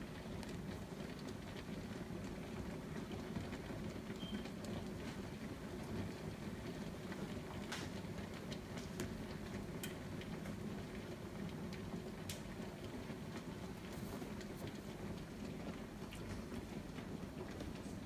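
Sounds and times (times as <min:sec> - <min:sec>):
pot of water rumbling: 0:00.0 - 0:18.0.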